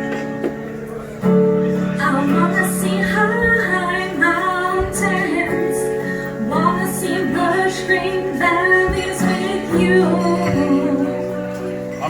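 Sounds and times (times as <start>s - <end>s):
woman singing: 2.0s - 11.8s.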